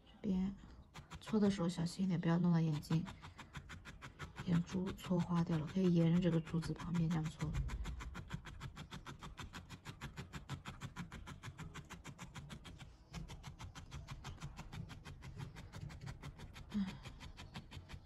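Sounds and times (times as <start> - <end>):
fingertips rubbing felt: 0.4 - 18.0.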